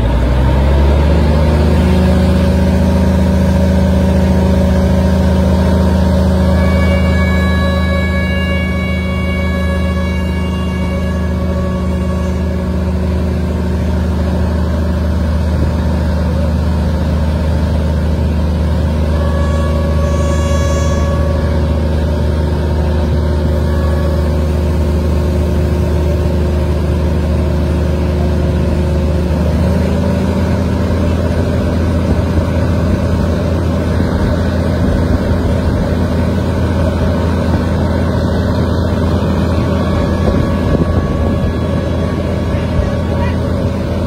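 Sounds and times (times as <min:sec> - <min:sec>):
low engine drone: 0:00.0 - 0:44.0
train rumbling along track: 0:00.0 - 0:44.0.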